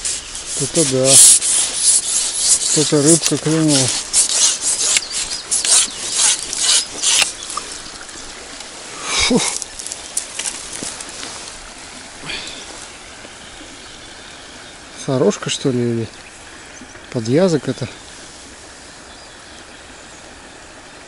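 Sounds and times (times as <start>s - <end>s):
rustling of dry grass and clothing: 0.0s - 15.0s, 15.7s - 20.3s
faint steady hiss: 0.0s - 21.0s.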